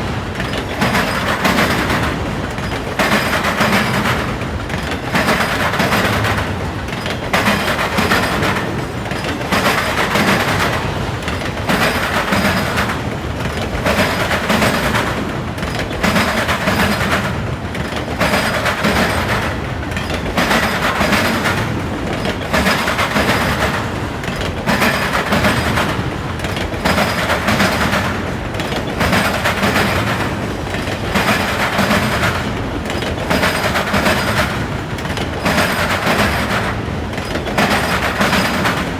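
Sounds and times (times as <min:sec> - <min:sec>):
train wheels clacking over crossing: 0:00.0 - 0:38.9.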